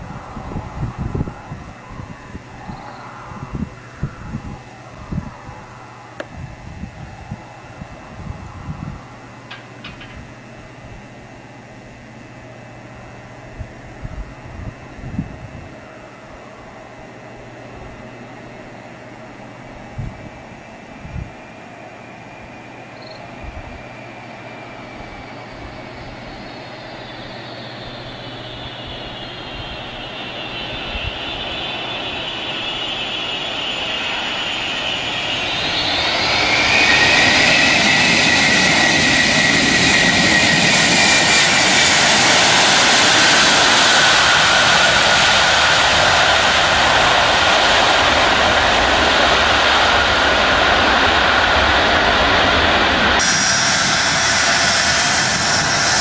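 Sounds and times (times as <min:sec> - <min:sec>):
jet airliner engines whining and roaring: 0:00.0 - 0:56.0.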